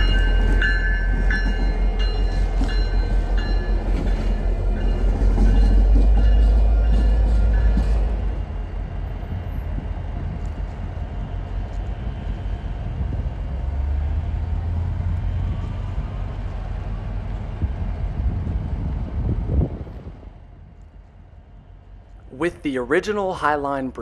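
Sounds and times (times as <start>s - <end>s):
diesel locomotive engine hum: 0.0s - 24.0s.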